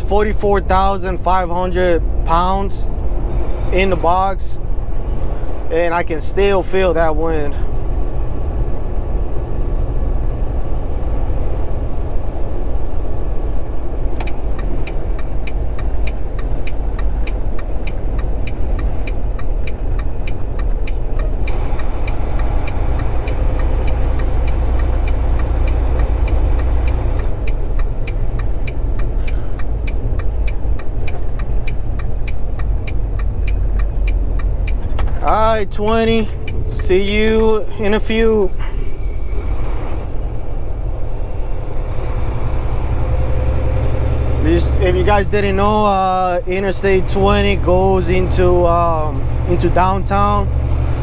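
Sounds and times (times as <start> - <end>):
light regular ticking: 0.0 - 51.0
truck engine and tyres drone: 0.0 - 51.0.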